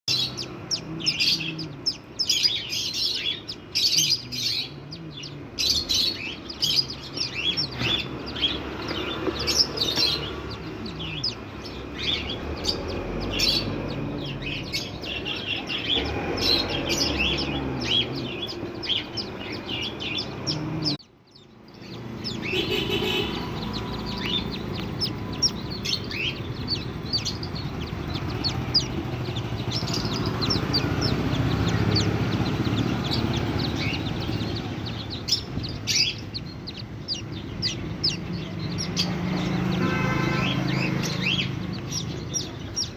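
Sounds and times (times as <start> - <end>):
ducklings peeping: 0.0 - 42.9.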